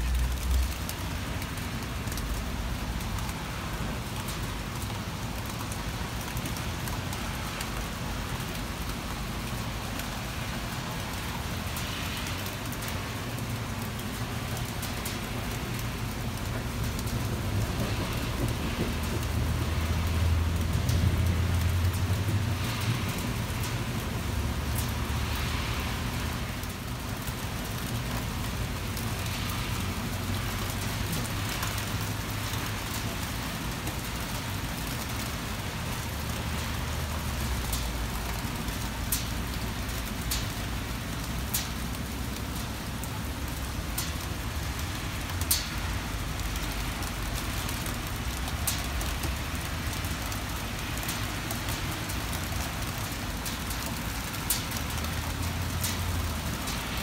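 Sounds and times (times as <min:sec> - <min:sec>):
heavy rain on paving: 0:00.0 - 0:57.0
raindrops ticking nearby: 0:00.0 - 0:57.0.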